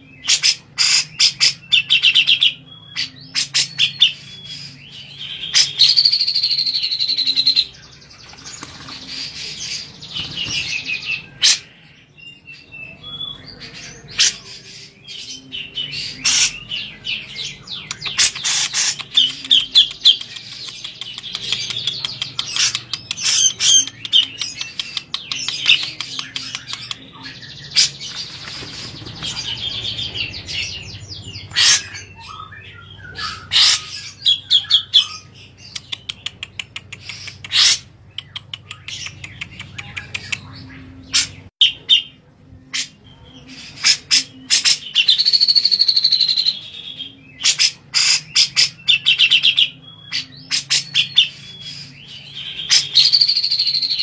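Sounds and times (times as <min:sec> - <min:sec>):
bird chattering and trilling: 0:00.0 - 0:54.0.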